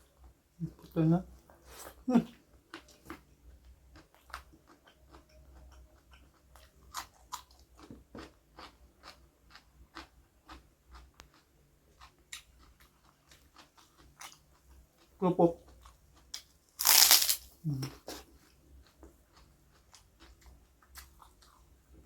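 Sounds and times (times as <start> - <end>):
person chewing crunchy food: 2.7 - 21.8.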